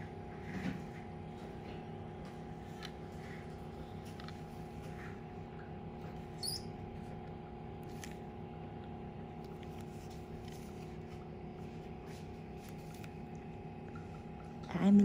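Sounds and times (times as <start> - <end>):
room equipment humming: 0.0 - 15.0.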